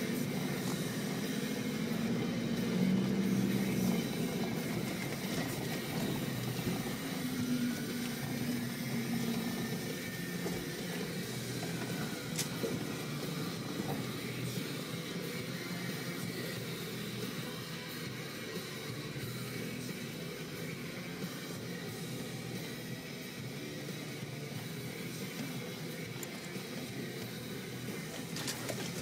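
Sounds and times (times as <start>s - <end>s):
vehicle engine hum: 0.0s - 29.0s.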